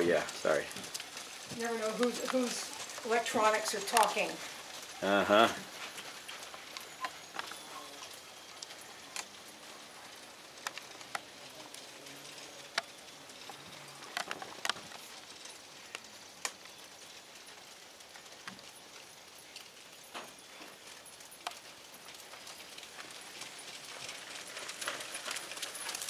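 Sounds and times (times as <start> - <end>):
hooves and cart wheels clicking: 0.0 - 26.0.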